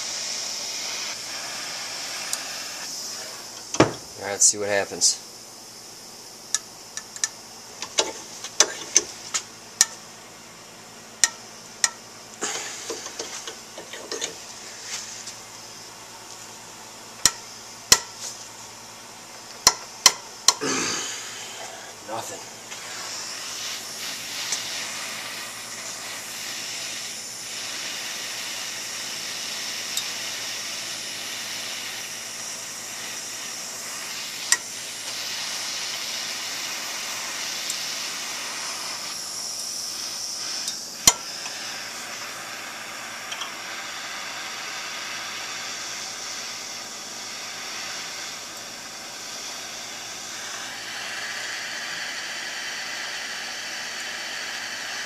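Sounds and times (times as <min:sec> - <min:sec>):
gas torch flame hissing: 0:00.0 - 0:55.0.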